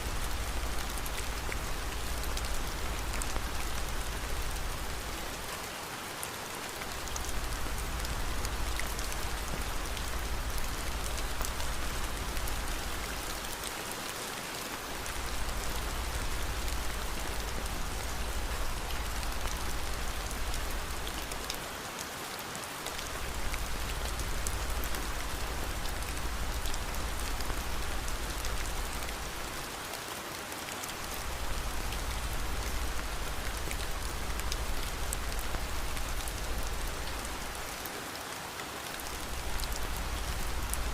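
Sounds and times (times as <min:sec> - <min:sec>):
rain hiss: 0:00.0 - 0:40.9.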